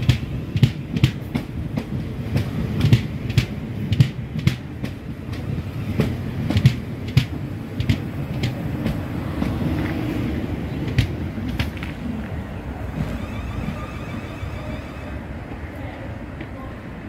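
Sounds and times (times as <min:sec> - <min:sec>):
wheels clicking over rail joints: 0:00.0 - 0:15.7
train low rumble: 0:00.0 - 0:17.0.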